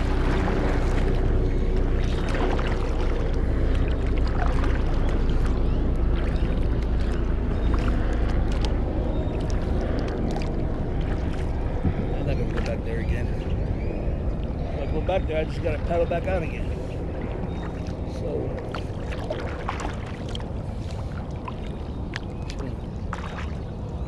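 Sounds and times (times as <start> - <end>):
low rumble: 0.0 - 24.0
paddle blades splashing: 0.0 - 24.0
water moving along hull: 0.0 - 24.0.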